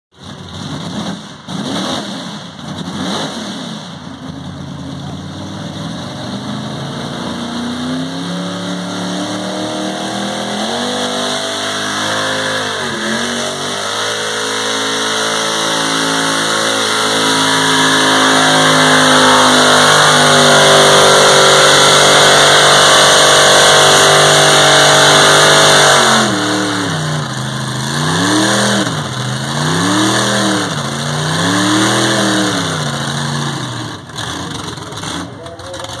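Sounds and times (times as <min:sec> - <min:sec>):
truck engine at full throttle: 0:00.1 - 0:36.0.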